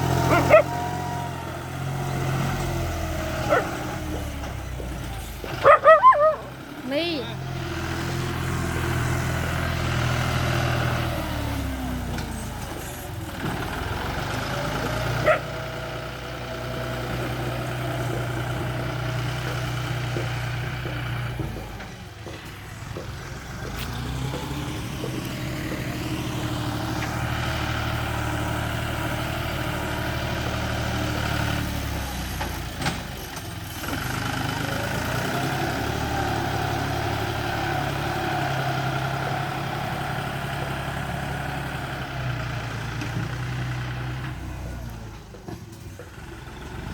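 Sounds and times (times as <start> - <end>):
bulldozer diesel engine: 0.0 - 46.9.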